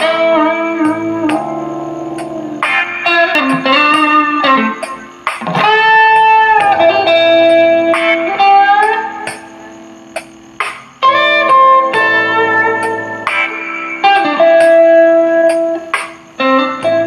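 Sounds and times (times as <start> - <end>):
electric guitar slow melody: 0.0 - 17.0.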